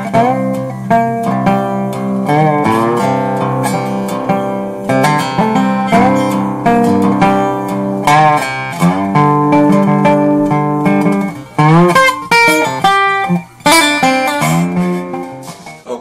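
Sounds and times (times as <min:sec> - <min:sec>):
guitar plucked and strummed: 0:00.0 - 0:16.0.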